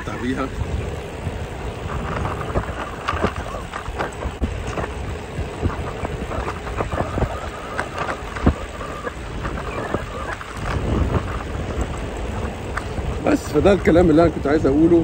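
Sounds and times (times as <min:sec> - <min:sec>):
low road rumble: 0:00.0 - 0:15.0
wind buffeting microphone: 0:00.0 - 0:15.0.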